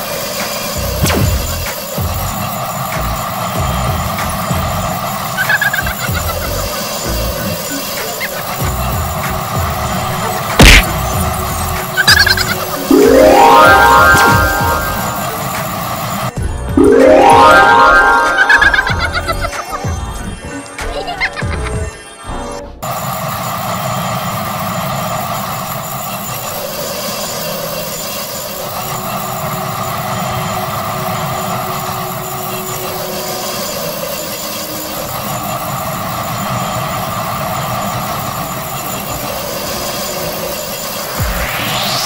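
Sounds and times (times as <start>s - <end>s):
diesel locomotive running: 0.0s - 20.5s, 21.6s - 42.0s.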